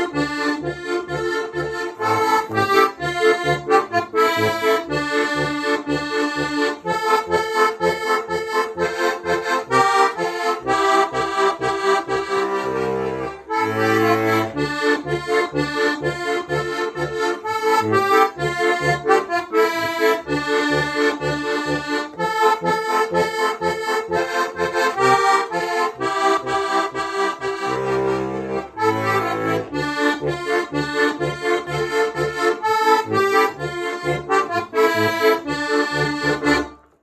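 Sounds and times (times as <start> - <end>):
button accordion folk tune: 0.0 - 37.0.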